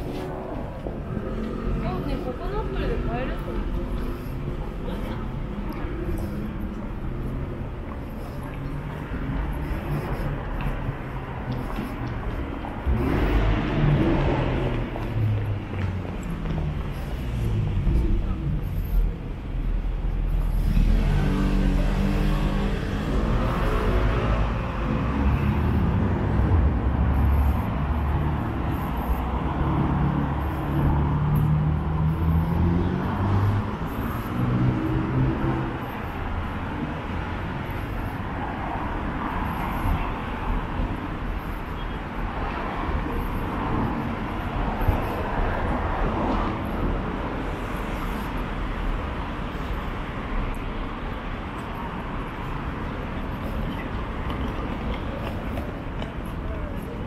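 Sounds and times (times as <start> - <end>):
engine hum: 0.0 - 49.8
car engines running: 0.0 - 57.0
road traffic going by: 0.0 - 57.0.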